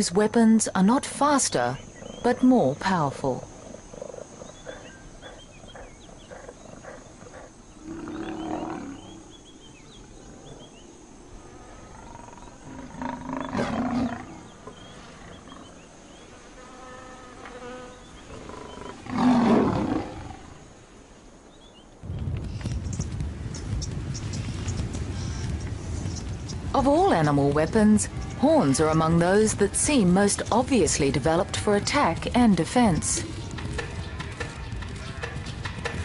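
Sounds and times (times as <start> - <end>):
insects chirping and buzzing: 0.0 - 36.0.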